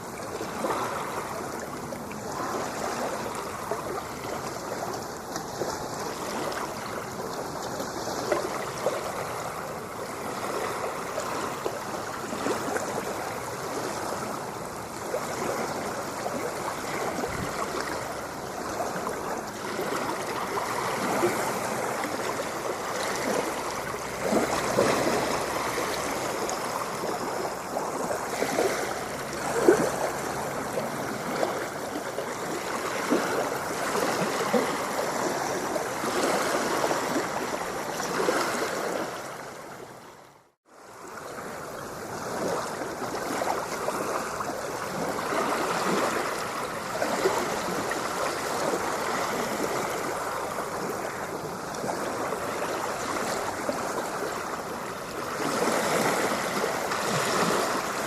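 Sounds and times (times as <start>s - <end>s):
ocean water washing and splashing: 0.0s - 58.0s.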